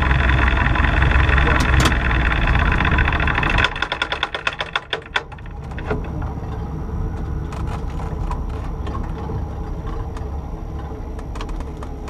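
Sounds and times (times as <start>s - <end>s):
aircraft engine shutting down: 0.0s - 12.0s
low steady rumble: 0.0s - 12.0s
propeller clicks slowing: 0.0s - 12.0s.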